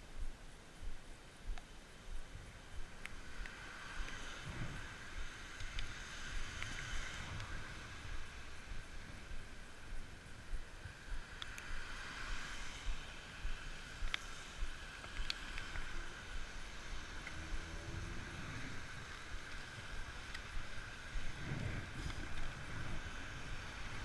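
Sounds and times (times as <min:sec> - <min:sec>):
steady hiss: 0:00.0 - 0:24.0
wind buffeting microphone: 0:00.2 - 0:11.9, 0:12.8 - 0:24.0
faint clicks: 0:00.3 - 0:11.8, 0:12.4 - 0:24.0.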